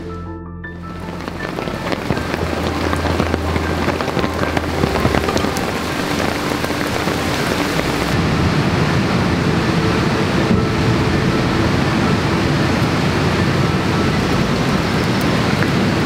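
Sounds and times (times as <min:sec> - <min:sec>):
heavy rain on wet ground: 0:00.9 - 0:16.0.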